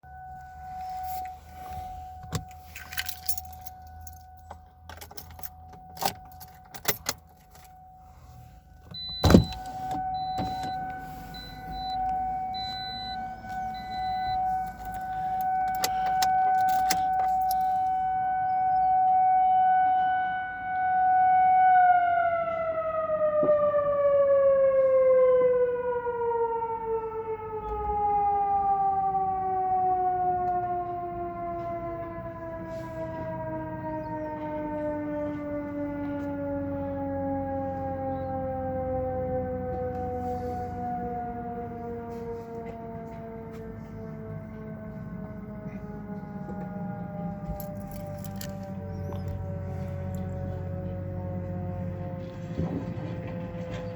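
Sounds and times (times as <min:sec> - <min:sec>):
tornado siren wailing: 0:00.0 - 0:53.9.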